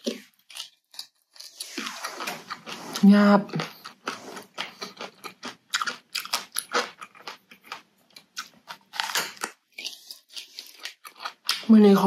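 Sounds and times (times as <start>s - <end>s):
crunching raw vegetable: 0.0s - 11.9s.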